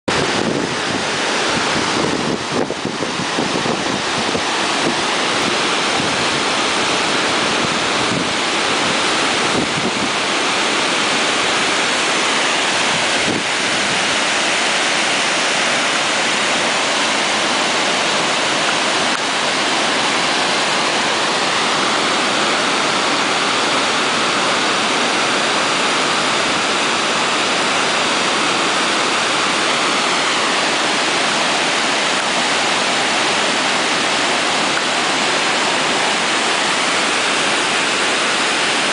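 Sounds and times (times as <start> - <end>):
water rushing over dam spillway: 0.1 - 38.9.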